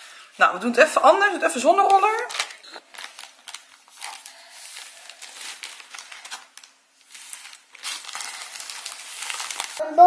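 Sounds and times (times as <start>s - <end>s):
dough rustling on baking paper: 0.4s - 10.0s.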